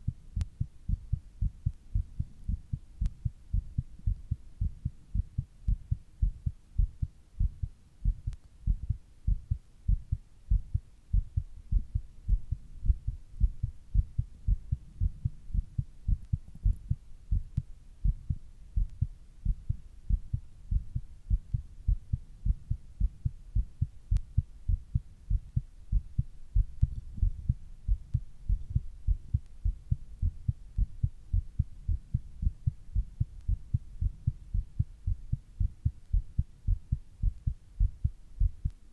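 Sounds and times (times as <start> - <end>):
heartbeat thumps: 0.0 - 38.8.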